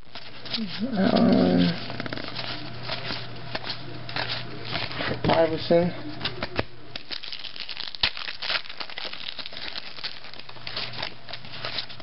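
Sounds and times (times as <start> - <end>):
foil pack crinkling and tearing: 0.0 - 5.4, 6.2 - 12.0.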